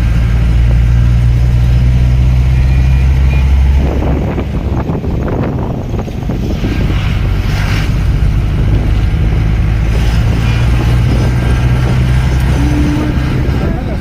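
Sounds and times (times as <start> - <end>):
road noise: 0.0 - 14.0
vehicle engine drone: 0.0 - 14.0.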